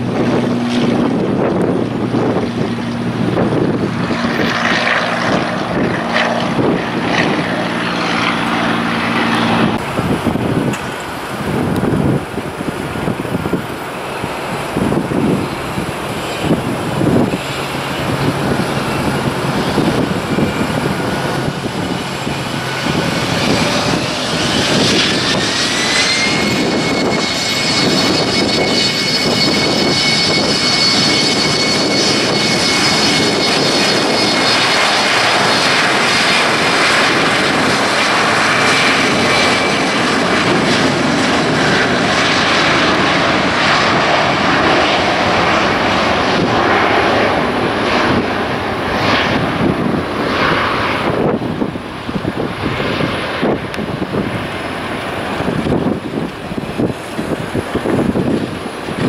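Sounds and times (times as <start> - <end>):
jet engine roar: 0.0 - 59.0
jet engine whine: 0.0 - 59.0.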